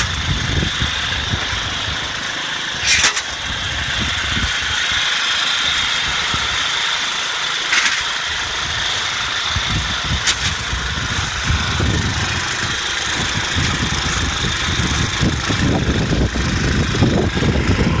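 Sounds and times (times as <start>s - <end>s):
cultivator engine running: 0.0s - 18.0s.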